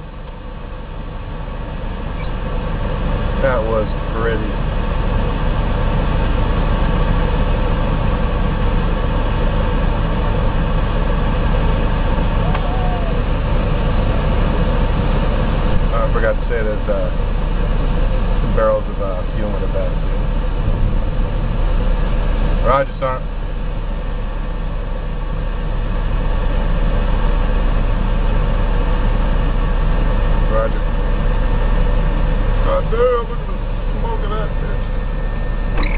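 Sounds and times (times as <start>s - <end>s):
heavy vehicle engine drone: 0.0s - 35.9s.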